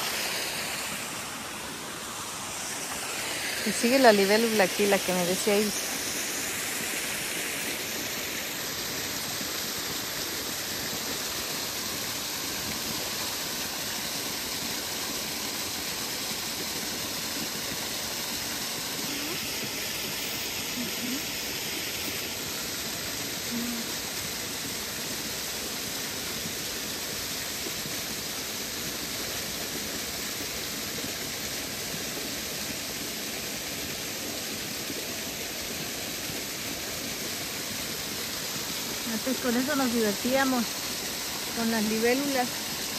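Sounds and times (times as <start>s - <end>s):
stream water rushing: 0.0s - 42.9s.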